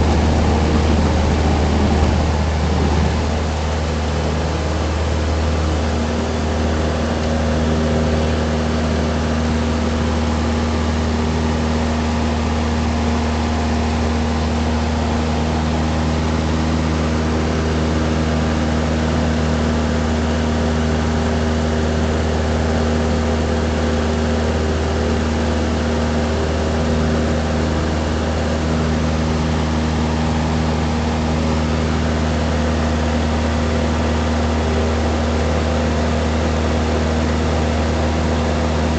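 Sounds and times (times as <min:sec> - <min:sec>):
airplane engine drone: 0:00.0 - 0:38.9.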